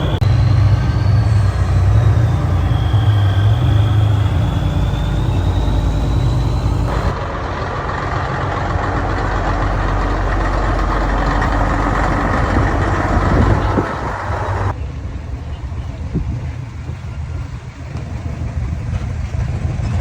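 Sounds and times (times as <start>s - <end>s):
deep truck engine with high whine: 0.0s - 20.0s
rough noisy engine: 0.0s - 20.0s.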